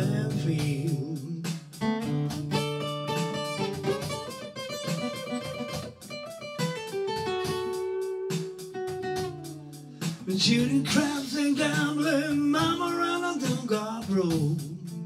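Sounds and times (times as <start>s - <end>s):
fingerpicked blues acoustic guitar: 0.0s - 15.0s.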